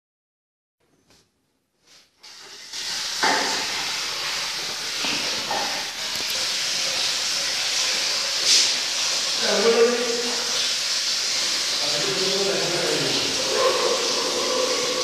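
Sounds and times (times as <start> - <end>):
steady high hiss: 2.2 - 15.0.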